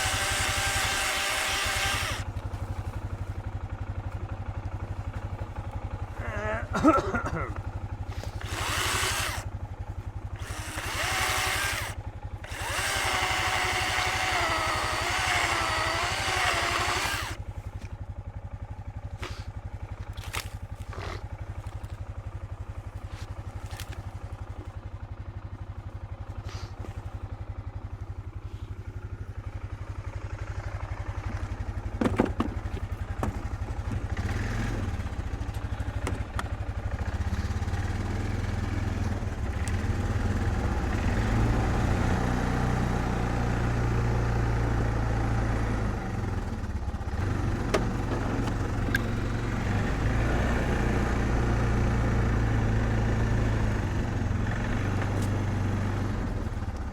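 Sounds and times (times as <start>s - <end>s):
small engine idling and revving: 0.0s - 56.9s.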